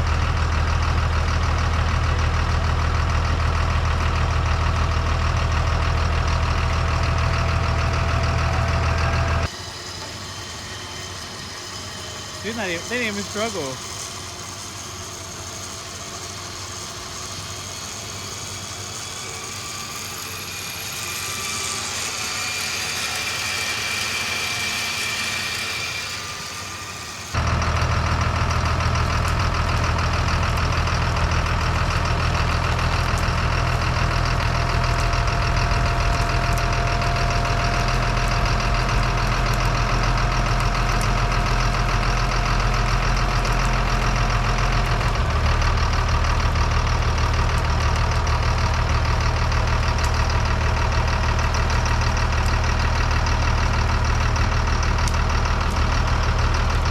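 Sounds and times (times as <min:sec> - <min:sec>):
truck engine idling: 0:00.0 - 0:20.7, 0:27.2 - 0:56.9.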